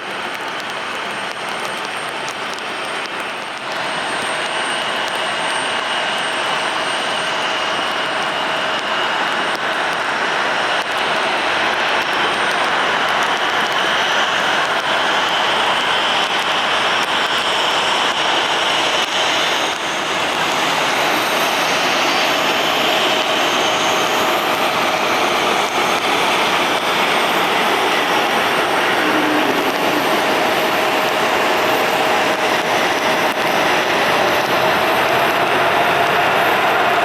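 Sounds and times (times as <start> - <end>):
faint jet engine whine: 0.0 - 37.0
jet engines rushing: 0.0 - 37.0.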